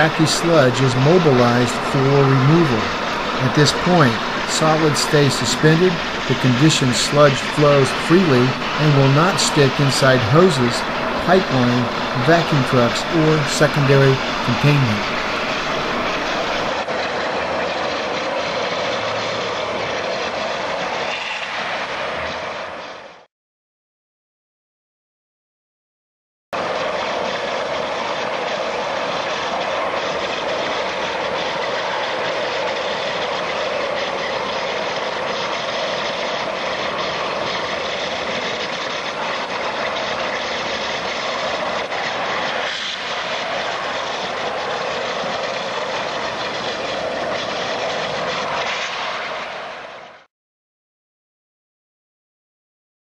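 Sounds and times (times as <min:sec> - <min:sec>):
loud industrial machinery roar: 0:00.0 - 0:23.2, 0:26.6 - 0:50.2.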